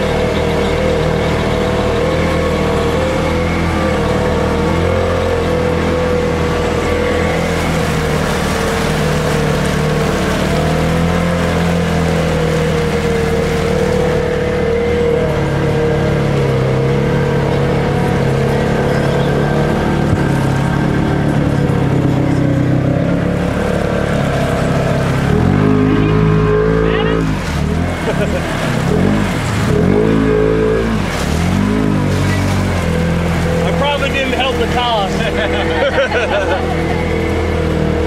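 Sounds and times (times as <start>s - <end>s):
utility vehicle engine droning: 0.0s - 38.0s
water washing around vehicle: 0.0s - 38.0s.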